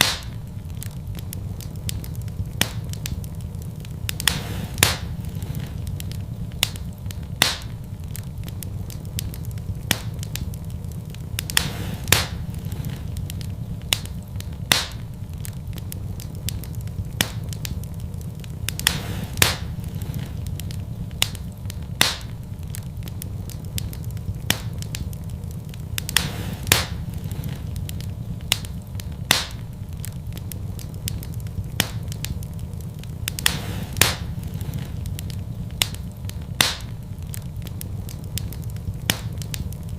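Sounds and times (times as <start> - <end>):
fire crackling and popping: 0.0 - 39.9
low rumble: 0.0 - 39.9.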